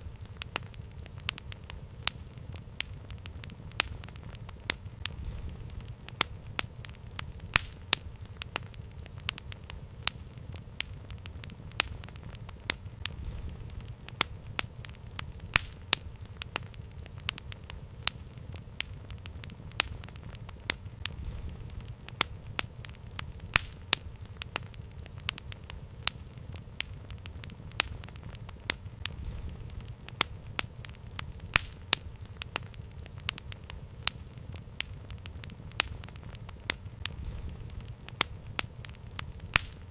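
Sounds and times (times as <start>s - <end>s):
campfire crackling and popping: 0.0s - 39.9s
low rumble of burning fire: 0.0s - 39.9s.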